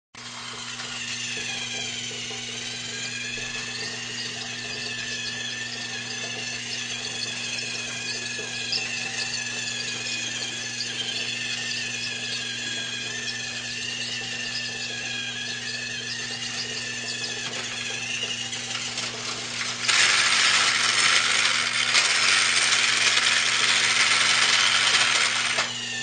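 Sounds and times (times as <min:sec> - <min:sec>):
toy train motor whining: 0:00.2 - 0:26.0.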